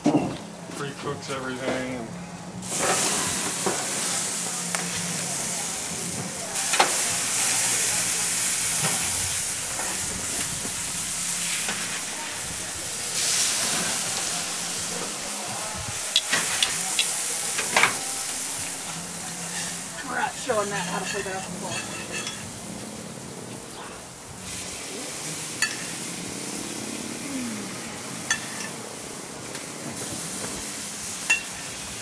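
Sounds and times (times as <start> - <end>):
ribs sizzling on a grill: 0.9 - 32.0.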